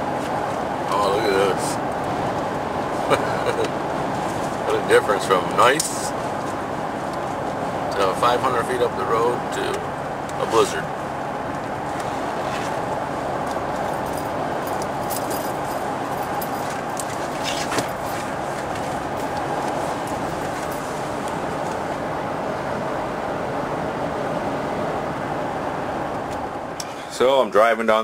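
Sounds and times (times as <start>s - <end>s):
road and engine noise: 0.0s - 28.0s.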